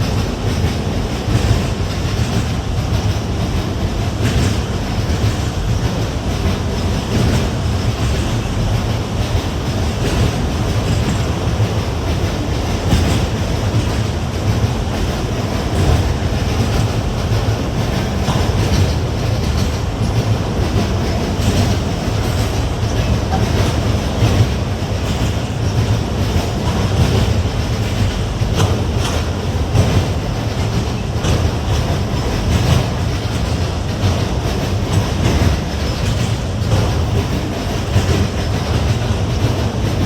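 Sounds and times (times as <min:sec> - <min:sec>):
freight train rumbling: 0:00.0 - 0:40.0
wheels clicking over rail joints: 0:00.0 - 0:40.0.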